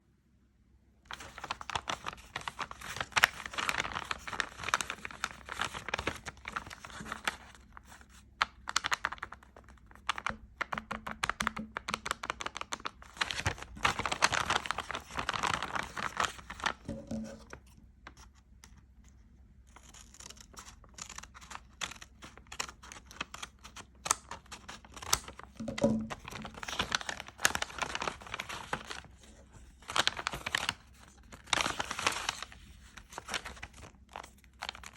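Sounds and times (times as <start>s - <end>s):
dense crinkling and crackling: 1.1s - 34.9s.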